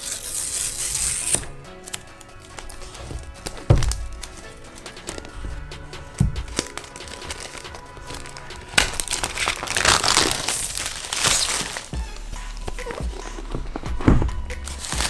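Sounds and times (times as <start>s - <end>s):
packaging crinkling and rustling: 0.0s - 15.0s
soft background music: 0.0s - 15.0s.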